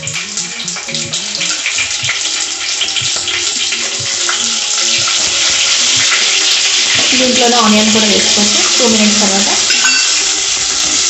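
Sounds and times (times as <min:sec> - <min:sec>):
hot oil sizzling and popping: 0:00.0 - 0:11.0.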